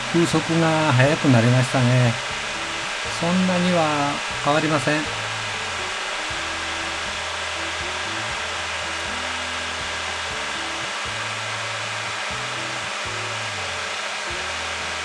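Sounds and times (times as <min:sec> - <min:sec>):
electric cooling fan running: 0:00.0 - 0:15.0.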